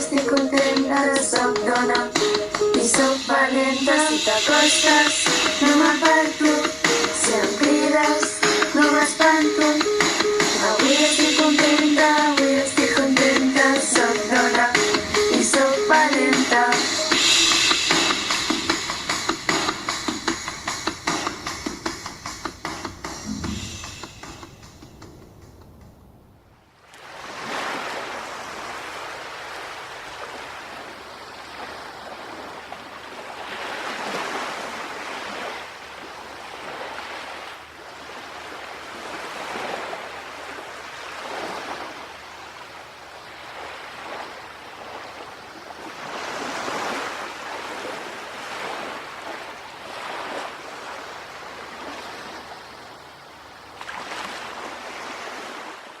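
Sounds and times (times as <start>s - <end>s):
sea waves washing in: 0.0s - 56.0s.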